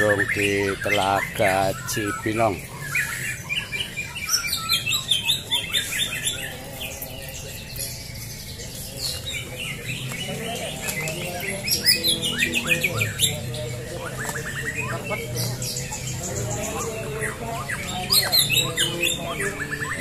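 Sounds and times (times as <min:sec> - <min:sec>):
murmur of voices: 0:00.0 - 0:20.0
songbirds chirping: 0:00.0 - 0:20.0.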